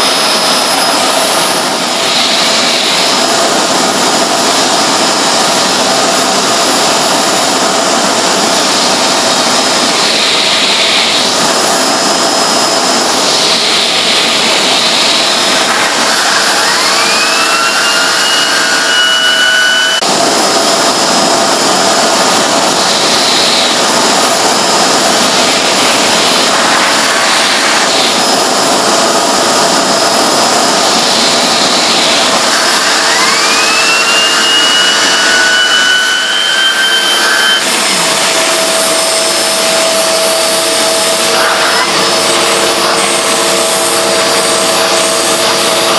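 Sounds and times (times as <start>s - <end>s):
high-pitched whine: 0.0s - 45.9s
vacuum cleaner running: 0.0s - 45.9s.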